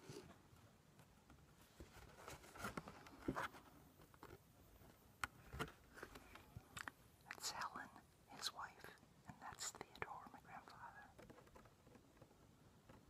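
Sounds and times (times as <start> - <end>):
faint taps clicks and rustling: 0.1 - 13.0.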